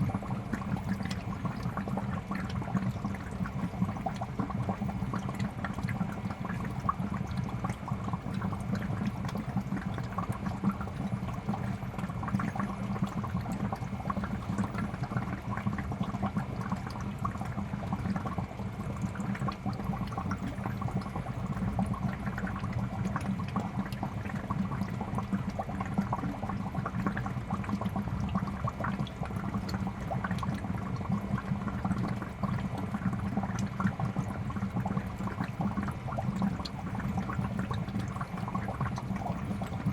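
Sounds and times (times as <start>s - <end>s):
fish tank water bubbling: 0.0s - 39.9s.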